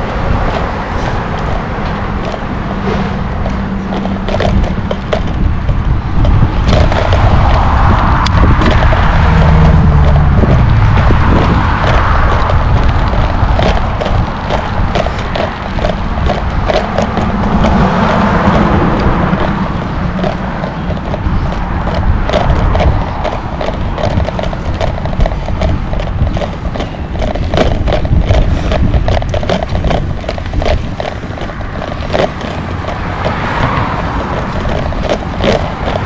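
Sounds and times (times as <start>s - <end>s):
bicycle clicks and rattles: 0.0s - 36.0s
wind rushing over microphone: 0.0s - 36.0s.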